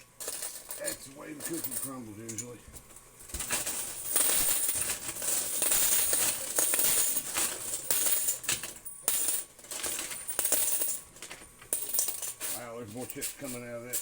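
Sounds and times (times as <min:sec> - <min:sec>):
coins and chips clattering: 0:00.2 - 0:14.0.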